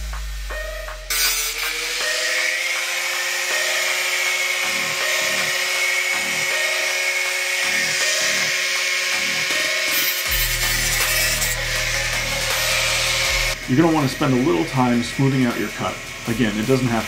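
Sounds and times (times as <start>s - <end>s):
angle grinder cutting metal: 0.4s - 17.0s.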